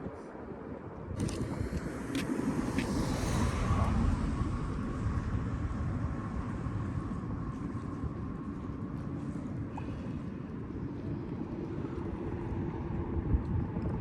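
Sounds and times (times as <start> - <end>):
low outdoor rumble: 0.2 - 14.0.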